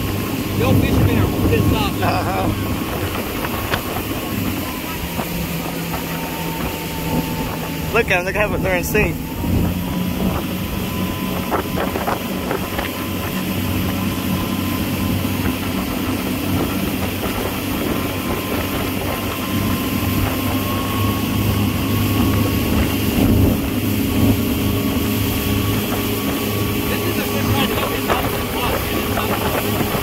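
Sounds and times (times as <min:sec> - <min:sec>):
motorboat engine running: 0:00.0 - 0:30.0
water rushing in wake: 0:00.0 - 0:30.0.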